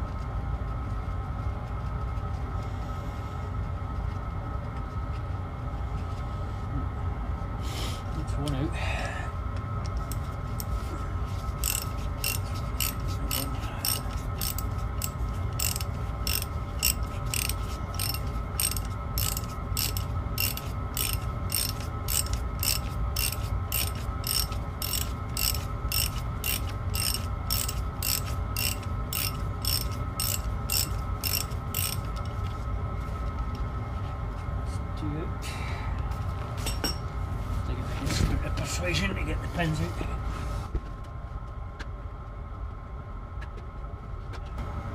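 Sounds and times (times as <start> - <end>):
heater fan humming: 0.0 - 44.9.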